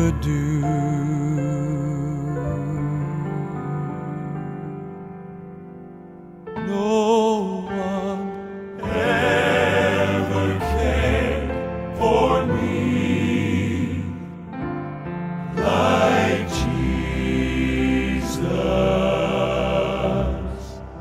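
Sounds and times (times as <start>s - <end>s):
male quartet singing in harmony: 0.0s - 4.9s, 6.6s - 14.6s, 15.4s - 21.0s.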